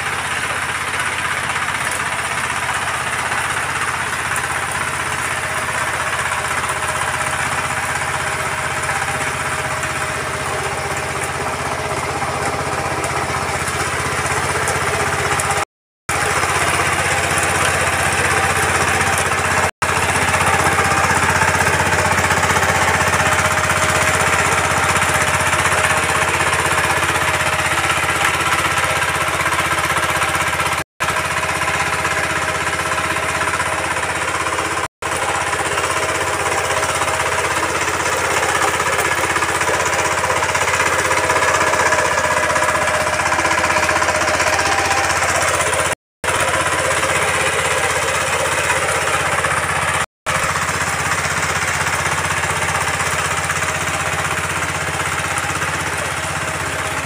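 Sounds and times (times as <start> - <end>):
diesel power tiller engine: 0.0 - 57.0
tines churning soil: 0.0 - 57.0.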